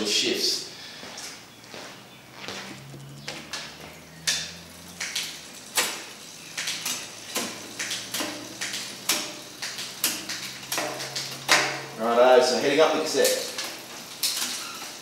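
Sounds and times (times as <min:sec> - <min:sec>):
bike chain clicking over cassette: 0:02.7 - 0:15.0.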